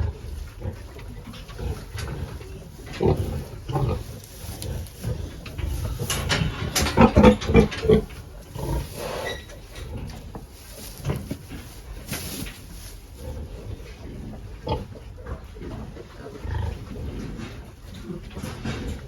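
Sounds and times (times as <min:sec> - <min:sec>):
pigs grunting: 0:00.0 - 0:19.0.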